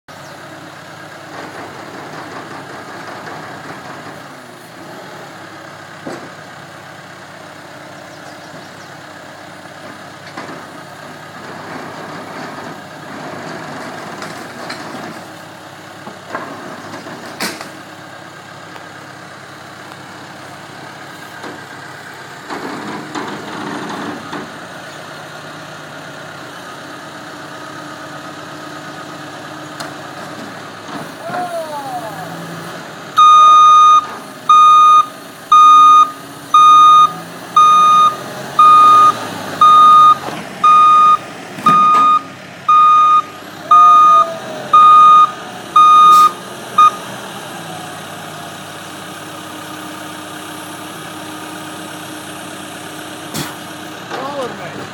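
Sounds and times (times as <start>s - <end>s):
diesel engine running: 0.1s - 54.9s.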